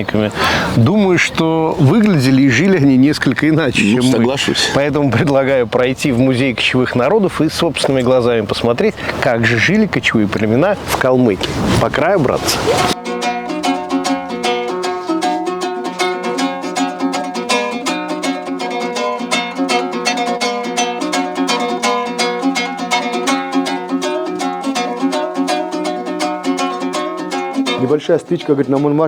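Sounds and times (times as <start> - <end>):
plucked string instrument music: 0.0 - 29.0.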